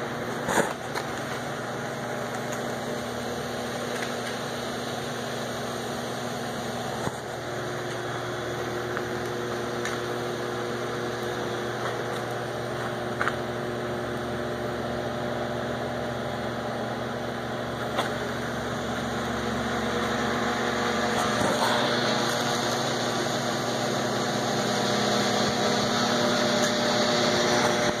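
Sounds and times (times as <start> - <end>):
motor humming: 0.0 - 28.0
cutting torch hissing: 0.3 - 14.0, 17.1 - 28.0.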